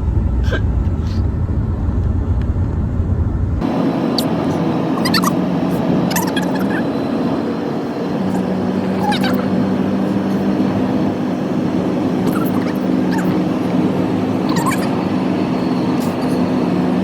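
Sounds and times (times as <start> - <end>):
vehicle humming: 0.0 - 17.0.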